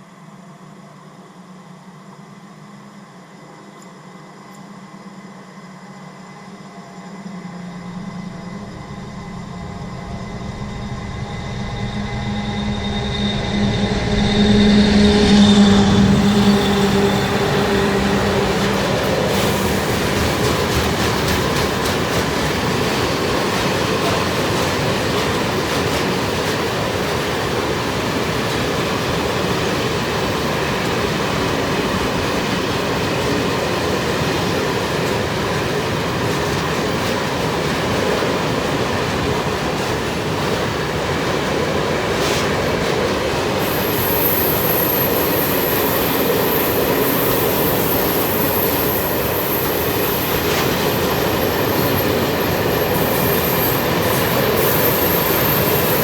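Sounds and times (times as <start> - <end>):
electric locomotive humming whine: 0.0 - 56.0
train wheels rumbling on rails: 4.4 - 56.0.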